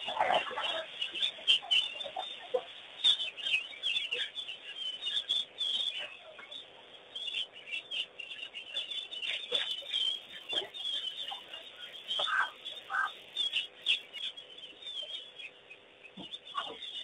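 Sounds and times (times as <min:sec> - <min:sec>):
wild birds chirping and calling: 0:00.0 - 0:17.0.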